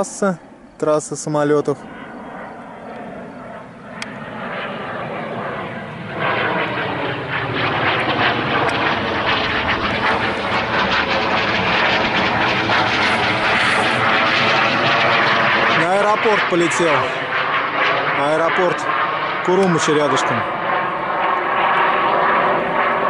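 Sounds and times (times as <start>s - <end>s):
jet airliner flying overhead: 0.0s - 23.0s.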